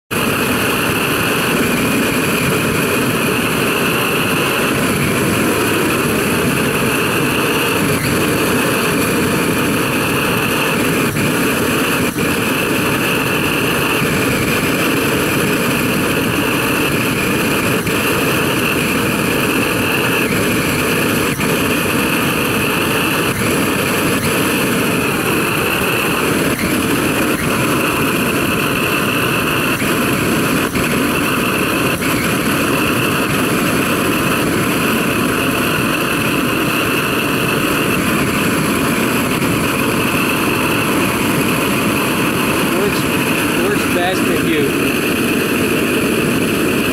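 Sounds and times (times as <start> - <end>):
blow torch hissing: 0.1 - 46.9.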